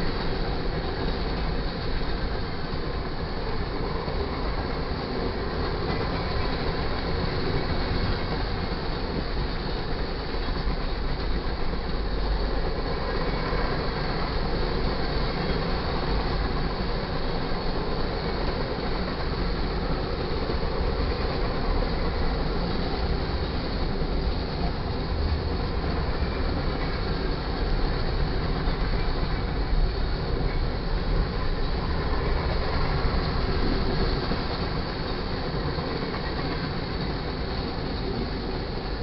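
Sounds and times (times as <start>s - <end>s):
freight train wheels on rails: 0.0s - 39.0s.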